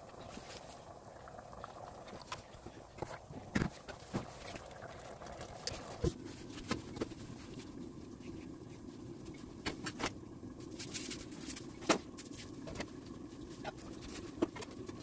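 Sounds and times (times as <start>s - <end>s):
soup simmering: 0.0s - 15.0s.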